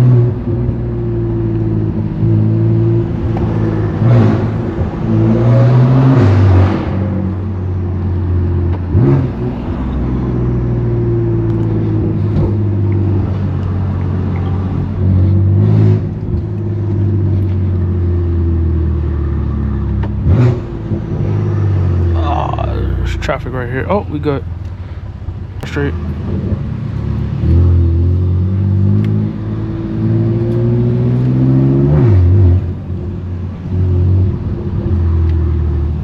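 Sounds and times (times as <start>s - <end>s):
car engine droning: 0.0s - 36.0s.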